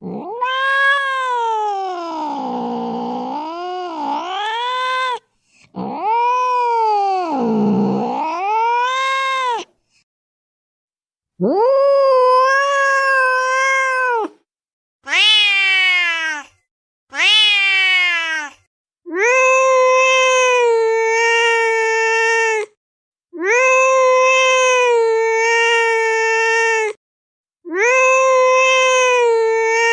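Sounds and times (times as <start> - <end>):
cat meowing: 0.0 - 5.2, 5.8 - 9.7, 11.4 - 14.4, 15.1 - 22.7, 23.4 - 27.0, 27.7 - 29.9.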